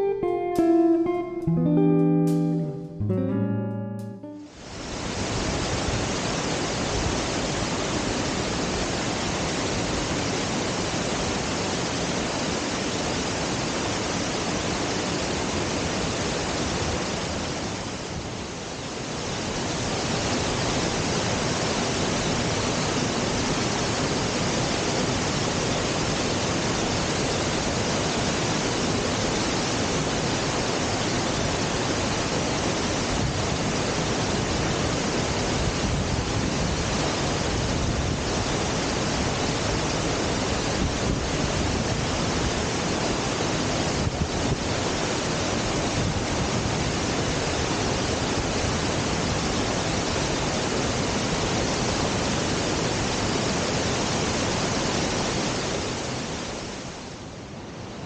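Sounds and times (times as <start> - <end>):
waterfall rushing: 4.6 - 57.0.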